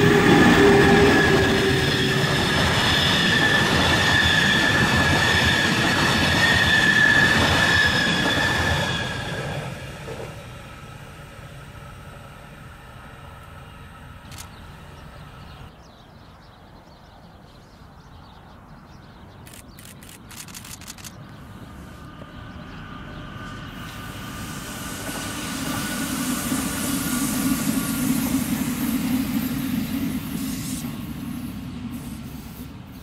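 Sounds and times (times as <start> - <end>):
electric train passing: 0.0 - 15.8, 19.5 - 33.0.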